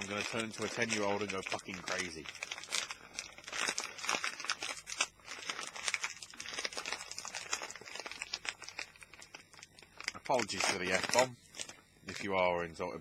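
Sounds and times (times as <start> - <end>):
snack bag crinkling and tearing: 0.0 - 12.4.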